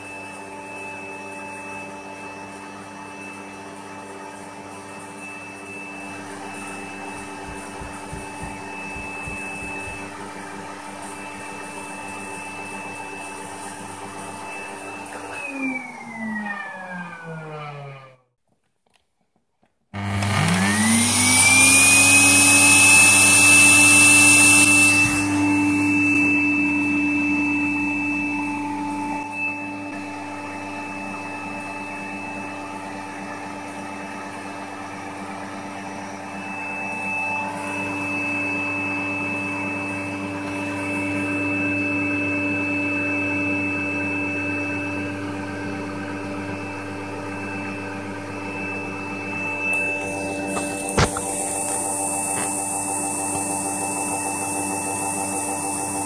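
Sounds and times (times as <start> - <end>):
vacuum cleaner motor whining: 0.0 - 18.3, 20.0 - 56.0.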